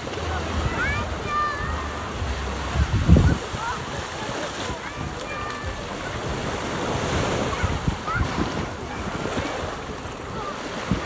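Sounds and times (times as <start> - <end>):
sea surf washing in: 0.0 - 11.0
wind buffeting microphone: 0.0 - 11.0.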